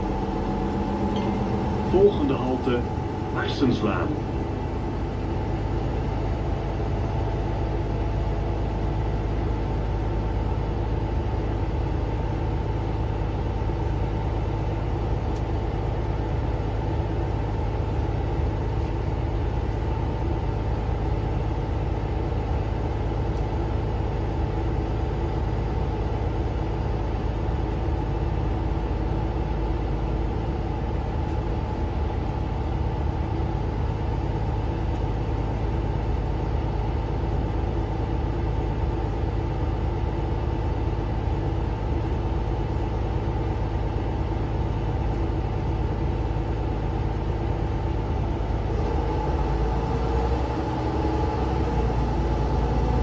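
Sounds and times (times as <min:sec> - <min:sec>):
bus engine rumble inside cabin: 0:00.0 - 0:53.0.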